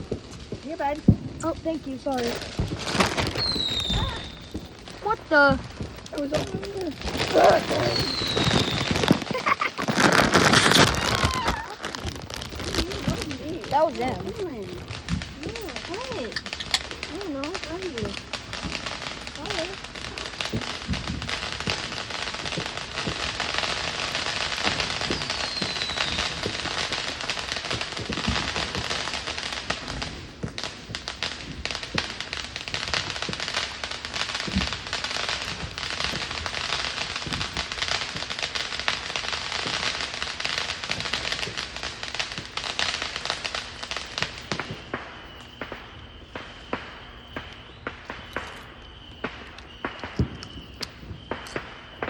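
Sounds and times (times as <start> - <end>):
fireworks crackling pops: 0.0 - 52.0
falling firework whistle: 0.7 - 5.6, 6.3 - 33.8, 34.4 - 52.0.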